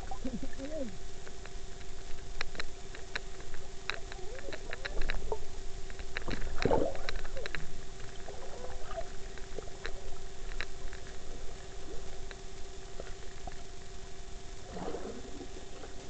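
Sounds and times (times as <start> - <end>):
steady low tone: 0.0 - 16.0
underwater clicks and bubbling: 0.0 - 16.0.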